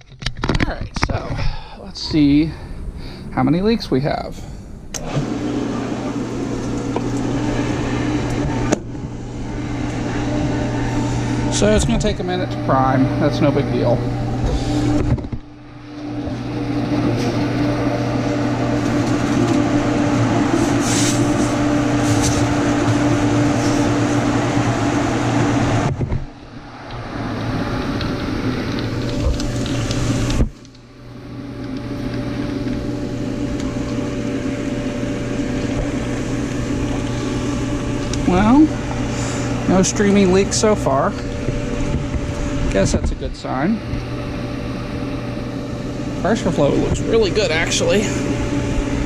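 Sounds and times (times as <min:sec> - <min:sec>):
water and air rushing through pump: 0:00.0 - 0:49.0
pool pump motor humming: 0:01.0 - 0:49.0.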